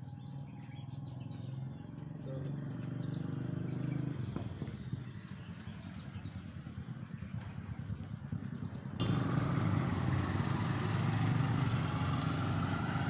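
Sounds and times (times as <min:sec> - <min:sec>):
small birds chirping: 0:00.0 - 0:13.0
vehicle engine humming: 0:00.9 - 0:13.0.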